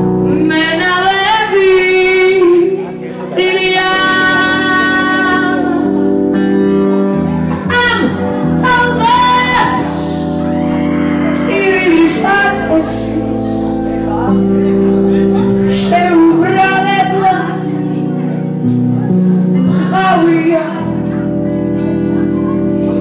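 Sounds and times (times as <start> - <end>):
instrumental accompaniment: 0.0 - 23.0
person singing long notes: 0.0 - 23.0.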